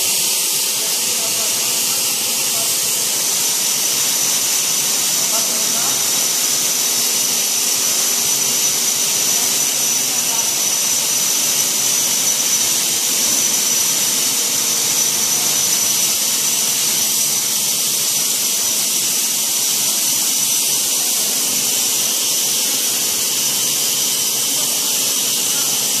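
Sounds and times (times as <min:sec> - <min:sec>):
plaster spray gun hissing: 0:00.0 - 0:26.0.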